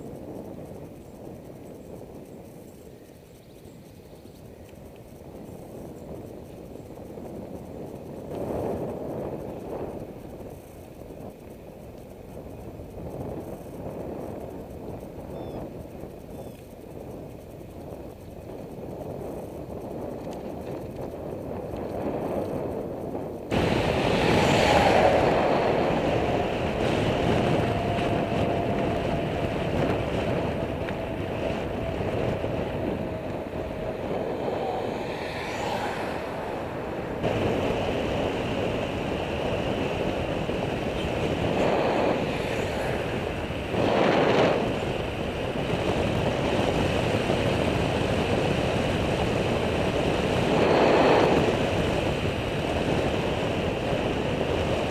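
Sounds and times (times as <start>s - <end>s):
road noise: 0.0s - 54.9s
wind rushing over microphone: 0.0s - 54.9s.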